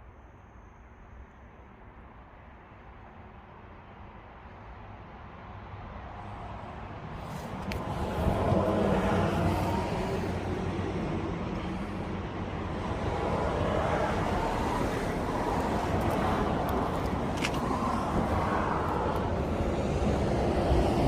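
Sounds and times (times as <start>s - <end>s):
road traffic passing: 2.4s - 21.0s.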